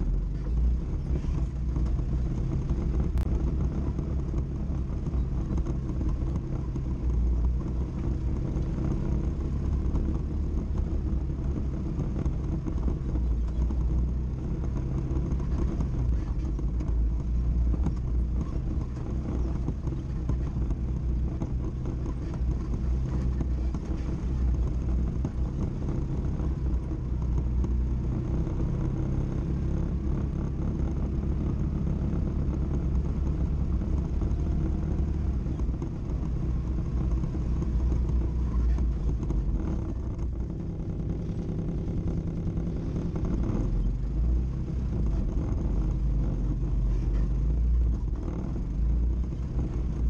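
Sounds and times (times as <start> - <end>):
atv engine running: 0.0 - 50.0.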